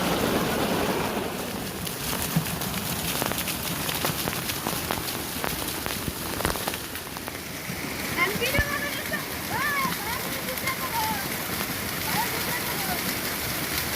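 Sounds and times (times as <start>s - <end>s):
waterfall rushing onto rock: 0.0s - 13.9s.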